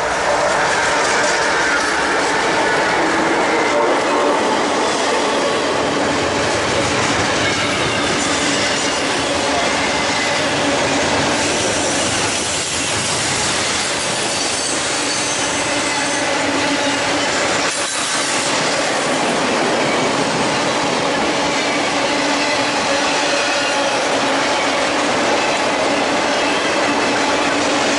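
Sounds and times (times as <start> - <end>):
train wheels on rails: 0.0 - 27.9.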